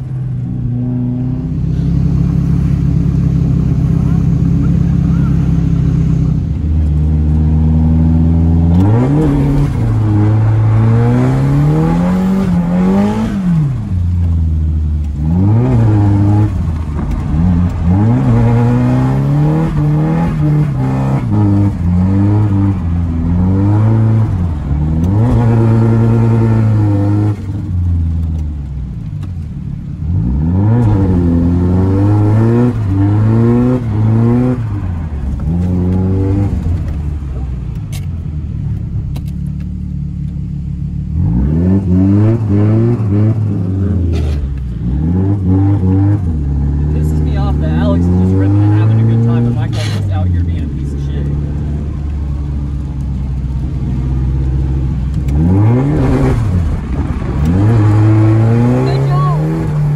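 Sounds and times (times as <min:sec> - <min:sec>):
car engine revving hard: 0:00.0 - 0:14.3, 0:15.0 - 0:28.0, 0:30.1 - 0:37.5, 0:41.1 - 0:59.9.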